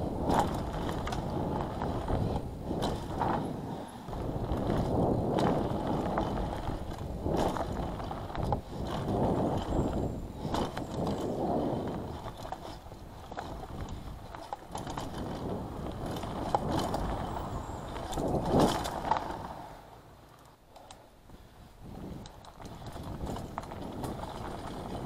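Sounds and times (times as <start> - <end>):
bike rattling and clicking: 0.0 - 25.0
bike tyres rumbling over dirt: 0.0 - 25.0.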